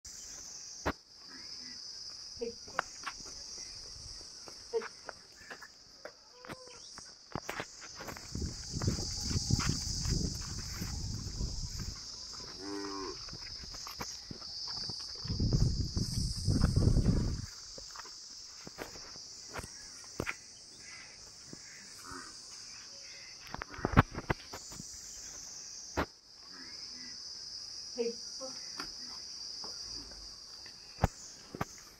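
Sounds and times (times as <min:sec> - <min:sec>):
insects chirring: 0:00.1 - 0:31.9.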